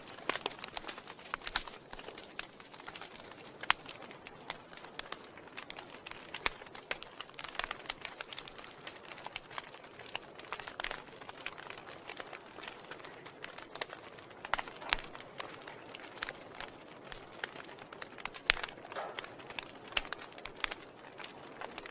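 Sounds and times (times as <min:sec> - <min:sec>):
burning logs popping and snapping: 0:00.0 - 0:21.9
soft steady hiss: 0:00.0 - 0:21.9.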